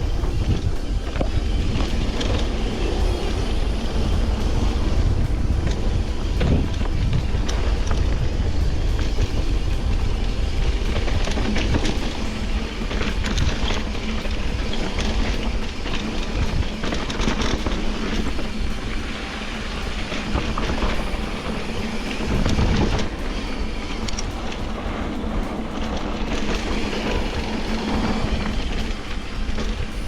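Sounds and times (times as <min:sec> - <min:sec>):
bicycle rattling over pavement: 0:00.0 - 0:30.0
wind on microphone: 0:00.0 - 0:30.0.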